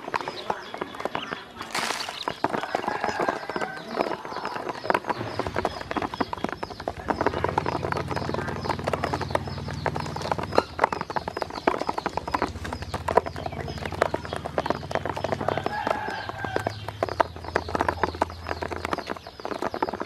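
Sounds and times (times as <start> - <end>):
bills tapping on plastic: 0.0 - 20.0
ducklings peeping: 0.0 - 20.0.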